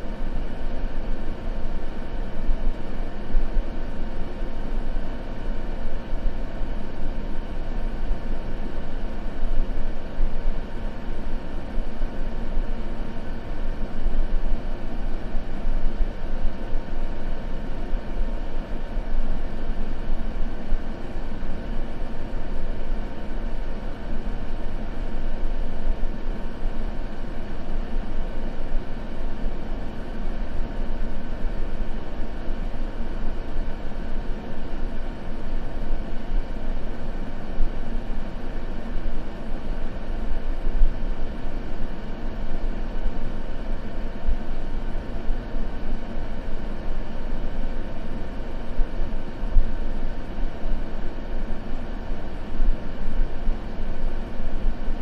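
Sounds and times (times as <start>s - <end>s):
white noise: 0.0s - 55.0s.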